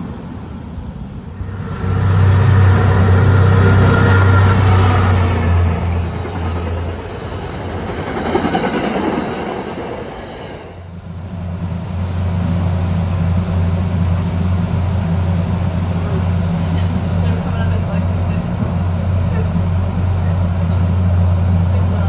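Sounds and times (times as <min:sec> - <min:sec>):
electric train hum and rolling: 0:00.0 - 0:22.0
train coaches rolling past: 0:00.0 - 0:22.0.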